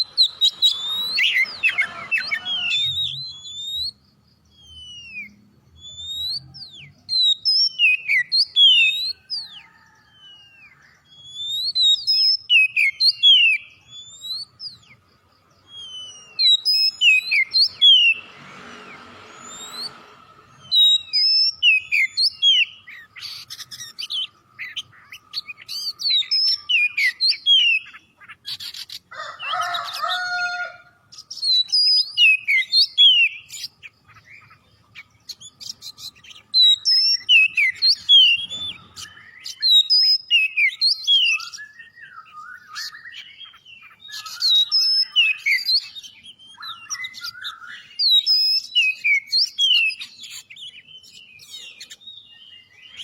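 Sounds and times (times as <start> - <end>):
bird singing whistles: 0.0 - 15.0, 15.6 - 29.0, 31.2 - 33.9, 34.9 - 53.0.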